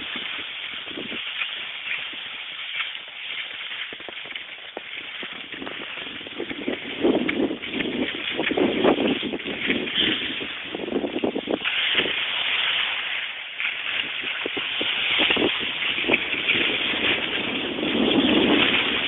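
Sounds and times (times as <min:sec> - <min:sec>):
skis sliding over snow: 0:00.0 - 0:19.0
wind buffeting microphone: 0:00.0 - 0:19.0.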